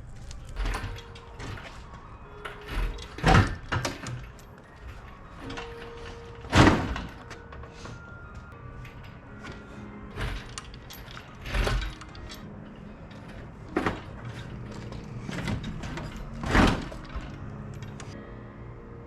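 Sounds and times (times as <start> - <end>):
irregular clunks and scrapes: 0.1 - 18.2.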